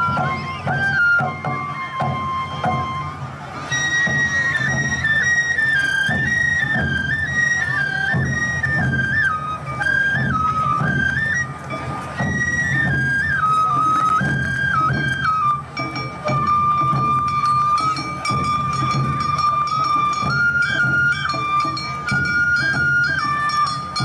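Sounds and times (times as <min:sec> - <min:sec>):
bamboo flute melody: 0:00.0 - 0:24.0
drum beats: 0:00.0 - 0:24.0.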